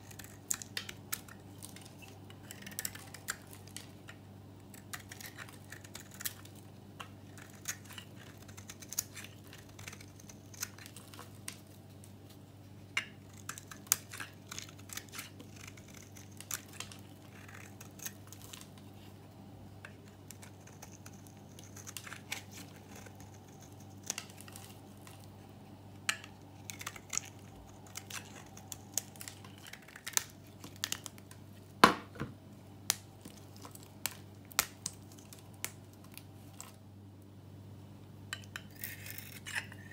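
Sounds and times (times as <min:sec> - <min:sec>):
knife shaving soap crackles: 0:00.0 - 0:19.1, 0:19.8 - 0:31.7, 0:32.9 - 0:36.8, 0:38.5 - 0:39.9.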